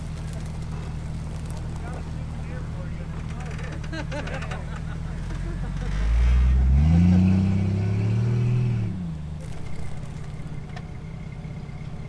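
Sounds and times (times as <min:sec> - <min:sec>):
vehicle engine revving and idling: 0:00.0 - 0:12.0.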